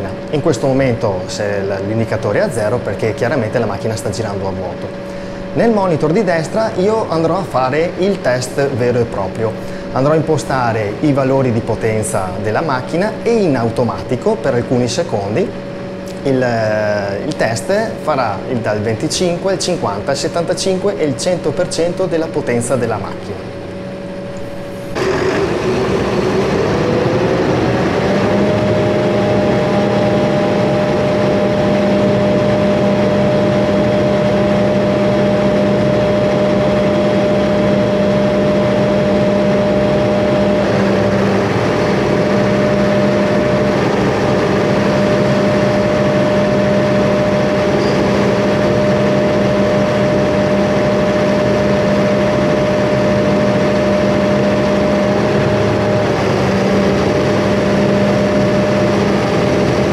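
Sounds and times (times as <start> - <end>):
diesel generator humming: 0.0 - 59.9.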